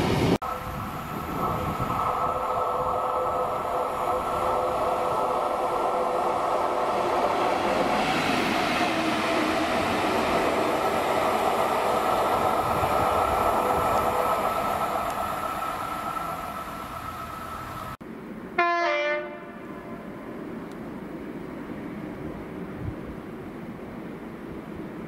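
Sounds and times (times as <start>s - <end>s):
diesel locomotive passing: 0.0s - 25.0s.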